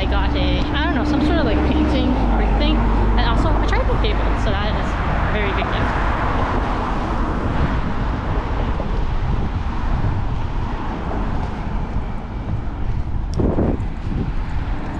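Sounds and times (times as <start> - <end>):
street noise: 0.0 - 14.9
wind rumbling on microphone: 0.0 - 14.9.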